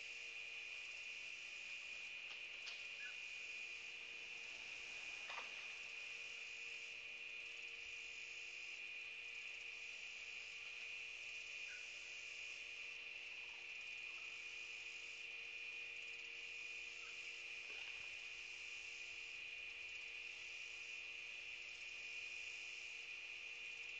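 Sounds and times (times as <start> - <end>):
high-pitched insect chorus: 0.0 - 23.9.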